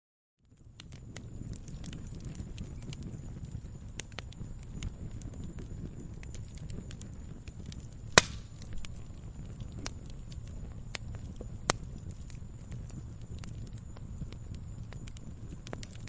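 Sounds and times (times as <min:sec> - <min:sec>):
firewood burning and crackling: 0:00.4 - 0:16.0
loud fire pops: 0:00.5 - 0:16.0.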